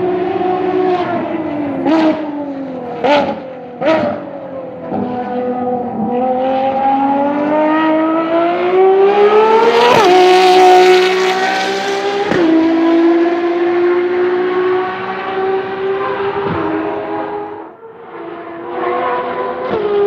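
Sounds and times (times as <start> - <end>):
car engine accelerating through gears: 0.0 - 20.0.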